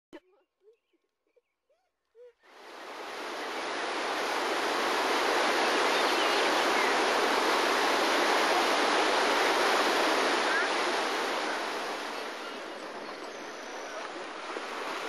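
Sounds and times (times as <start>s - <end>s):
steam venting and water churning: 2.5s - 15.0s.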